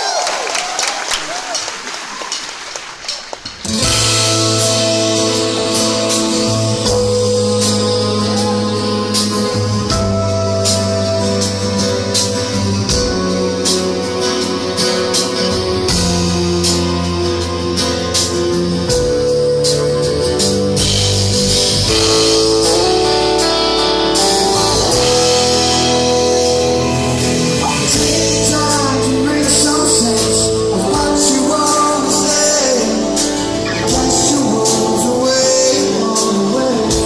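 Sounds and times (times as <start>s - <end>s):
live rock band playing: 1.2s - 37.0s
strummed guitar chords: 3.6s - 37.0s.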